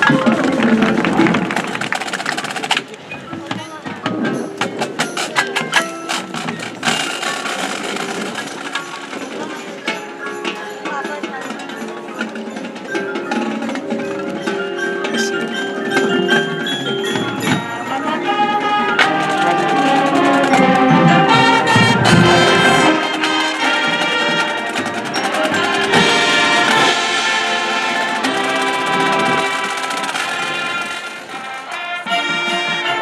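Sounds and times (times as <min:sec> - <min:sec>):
mallet percussion: 0:00.0 - 0:33.0
marching band playing: 0:00.0 - 0:33.0.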